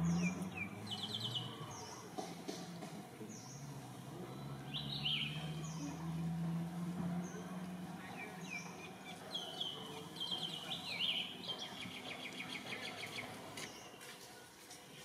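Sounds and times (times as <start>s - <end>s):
birds chirping: 0.0s - 14.5s.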